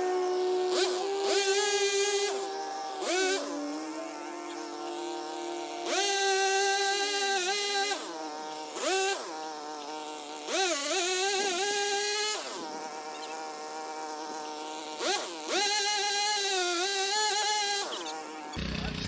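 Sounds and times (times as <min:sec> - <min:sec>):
small engine revving to high whine: 0:00.0 - 0:19.0.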